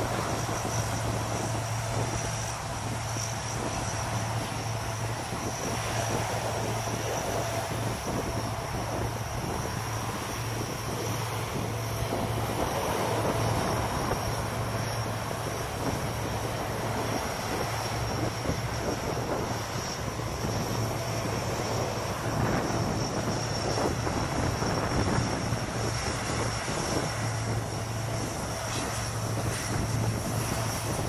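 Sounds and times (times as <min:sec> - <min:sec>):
high turbine whine: 0:00.0 - 0:31.0
low propeller hum: 0:00.0 - 0:31.0
turboprop engines running: 0:00.0 - 0:31.0.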